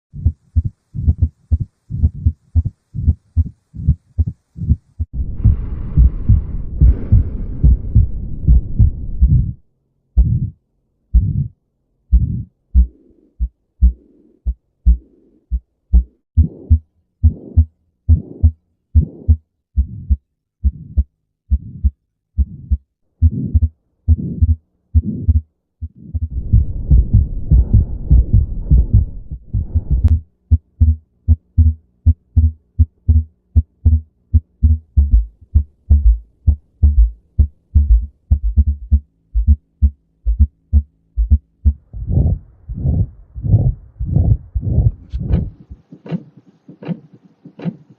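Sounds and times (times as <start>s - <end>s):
heart murmur: 0.1s - 9.6s, 10.2s - 47.9s
low heartbeats: 0.1s - 9.6s, 10.2s - 47.9s.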